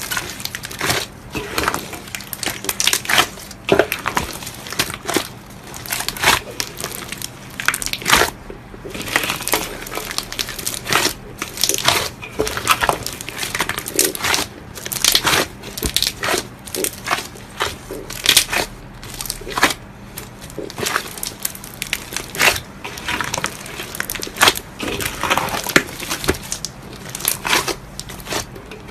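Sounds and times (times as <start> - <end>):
slime crunching: 0.0 - 28.9.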